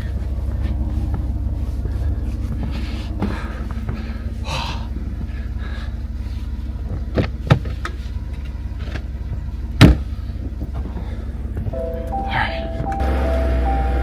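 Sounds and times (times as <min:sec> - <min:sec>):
car engine low drone: 0:00.0 - 0:14.0.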